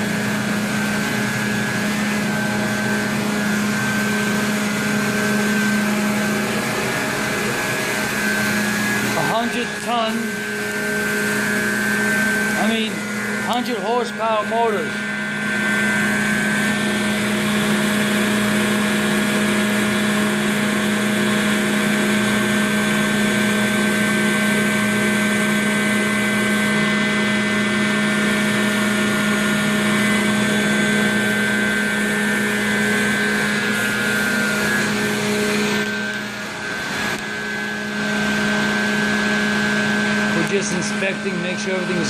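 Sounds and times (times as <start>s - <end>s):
water pumps droning: 0.0s - 42.0s.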